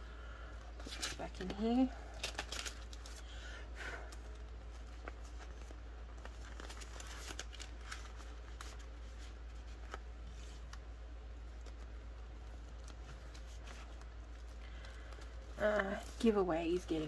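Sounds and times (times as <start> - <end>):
plastic envelopes rustling: 0.1 - 17.0.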